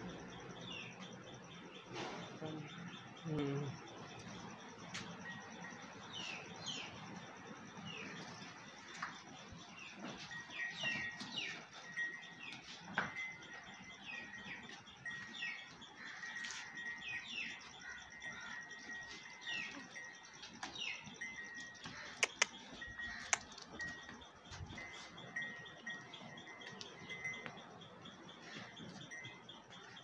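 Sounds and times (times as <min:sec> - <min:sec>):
small birds chirping: 0:00.1 - 0:30.0
cow bell clinking: 0:02.7 - 0:30.0.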